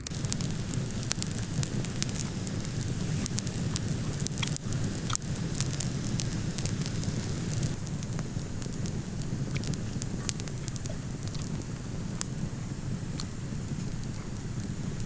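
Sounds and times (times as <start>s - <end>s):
campfire crackling and popping: 0.0s - 15.0s
low rumble: 0.0s - 15.0s.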